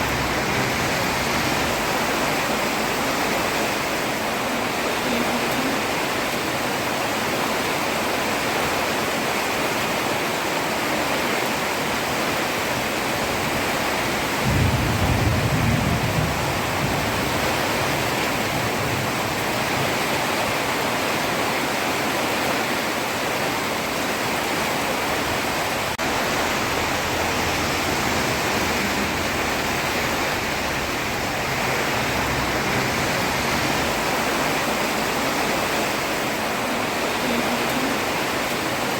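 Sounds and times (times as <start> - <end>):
heavy rain on a road: 0.0 - 38.9.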